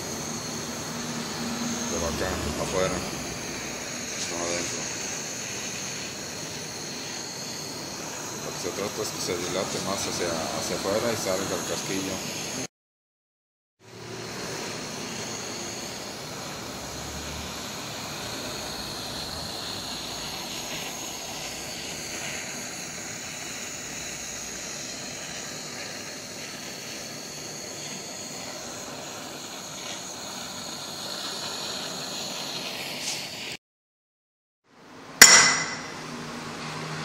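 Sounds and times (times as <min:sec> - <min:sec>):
gas torch flame hissing: 0:00.0 - 0:12.7, 0:13.8 - 0:33.6.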